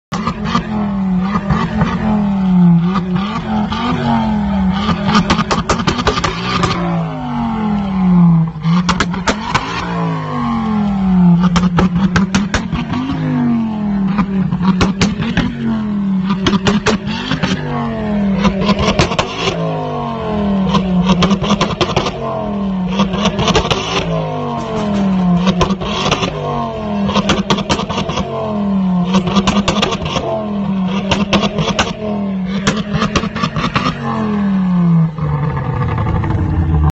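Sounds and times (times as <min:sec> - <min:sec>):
exhaust pops and crackles: 0:00.1 - 0:17.7, 0:18.3 - 0:19.6, 0:20.2 - 0:36.9
car engine revving: 0:00.1 - 0:36.9.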